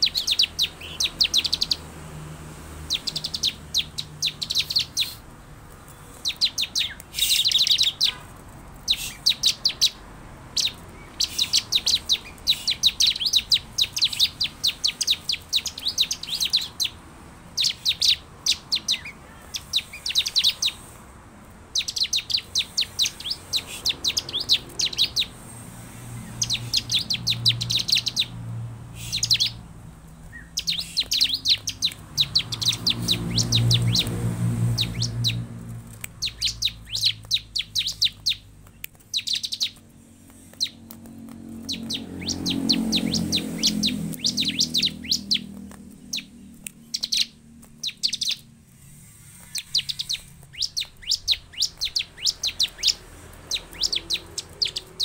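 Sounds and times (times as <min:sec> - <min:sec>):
bird chirping in bursts: 0:00.0 - 0:55.0.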